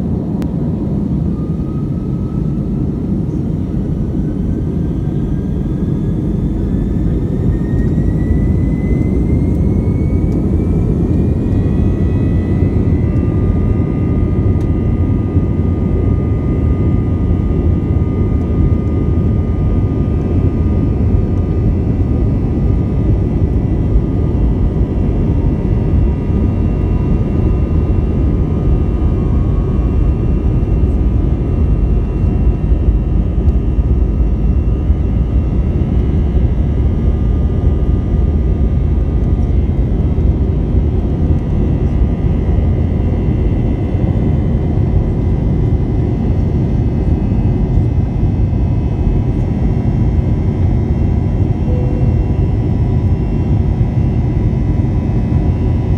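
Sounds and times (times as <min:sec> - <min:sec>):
jet engines rumbling and whining: 0:00.0 - 0:55.9.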